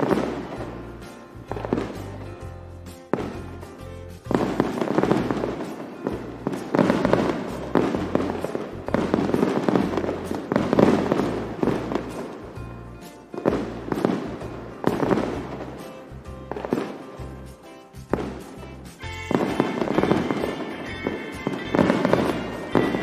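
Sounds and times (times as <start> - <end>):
background music with bass: 0.0 - 23.0
fireworks banging and crackling: 0.0 - 23.0.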